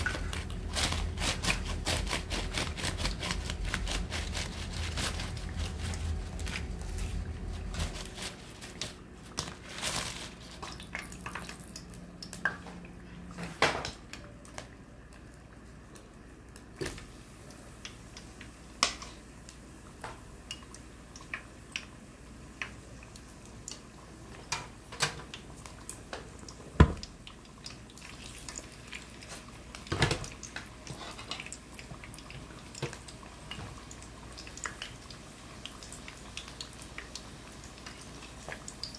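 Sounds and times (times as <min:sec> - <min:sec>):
dripping batter: 0:00.0 - 0:19.0, 0:19.8 - 0:24.5, 0:25.2 - 0:38.9.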